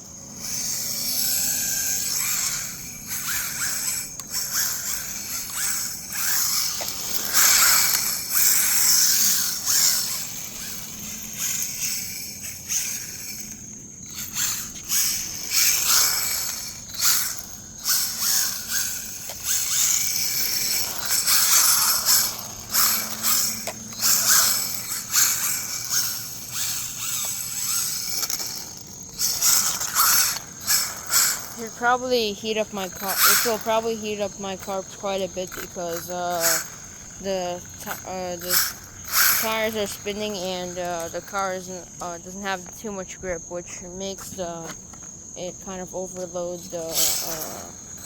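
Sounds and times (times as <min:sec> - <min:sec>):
rc car electric motor: 0:00.0 - 0:48.0.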